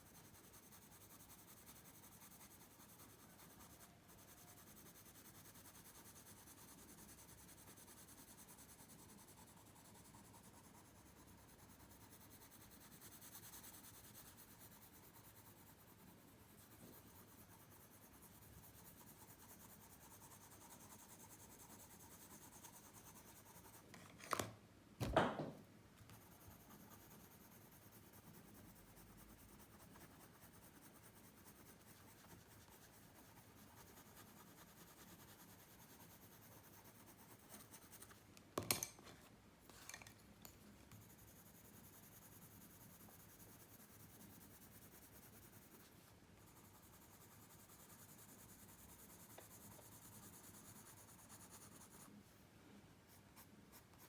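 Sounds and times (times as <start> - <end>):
pencil scratching on paper: 0.0 - 24.1, 26.1 - 38.2, 40.8 - 52.2, 53.1 - 54.0.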